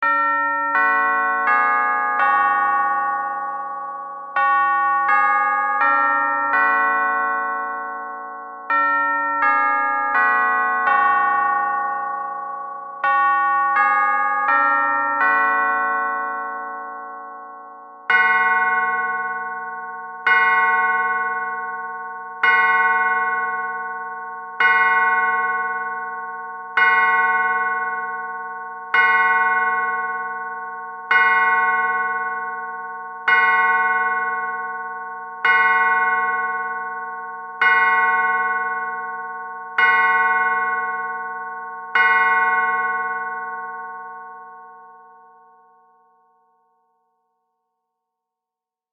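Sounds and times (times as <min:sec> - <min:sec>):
clock bell striking: 0:00.0 - 0:44.7.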